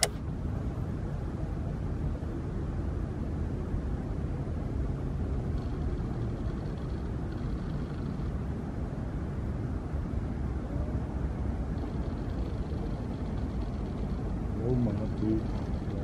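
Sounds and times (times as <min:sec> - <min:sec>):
vehicle rumble: 0:00.0 - 0:16.0.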